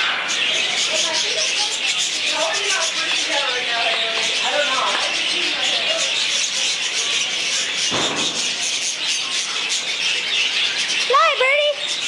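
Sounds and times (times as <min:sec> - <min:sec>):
budgerigars chattering and chirping: 0:00.0 - 0:12.0.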